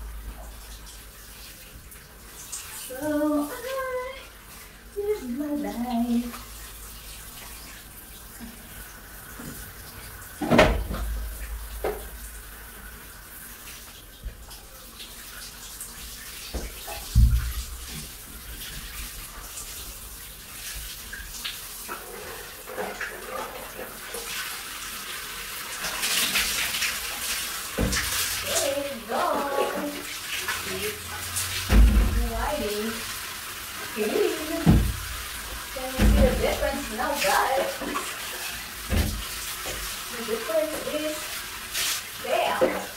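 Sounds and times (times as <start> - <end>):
shower water splashing: 0.0 - 42.9.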